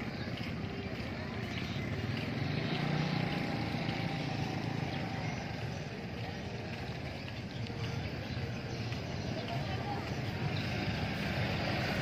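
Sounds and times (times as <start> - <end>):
motor scooters passing: 0.0 - 12.0
street noise: 0.0 - 12.0.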